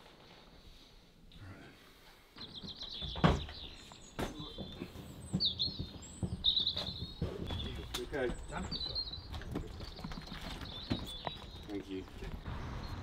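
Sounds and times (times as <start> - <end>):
small birds chirping: 1.3 - 13.0.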